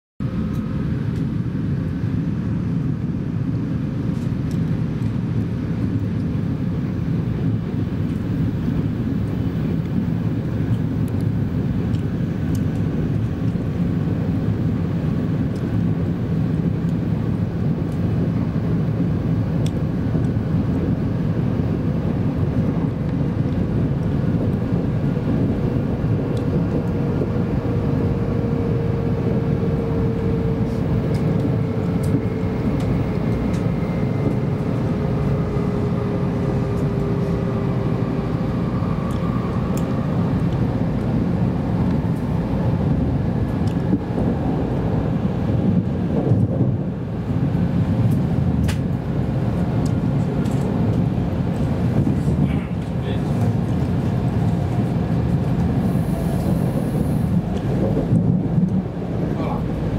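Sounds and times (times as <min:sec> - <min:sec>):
train rumble from inside cabin: 0:00.2 - 0:59.9.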